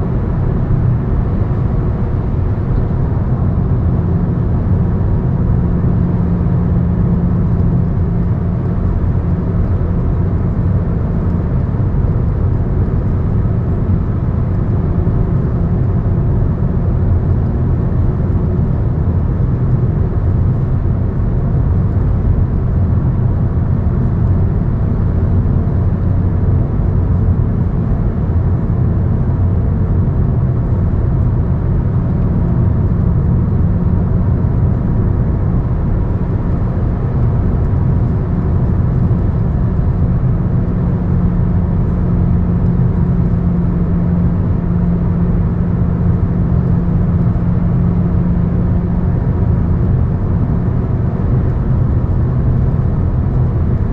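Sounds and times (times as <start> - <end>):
road and wind noise: 0.0 - 53.9
vehicle engine hum: 0.0 - 53.9.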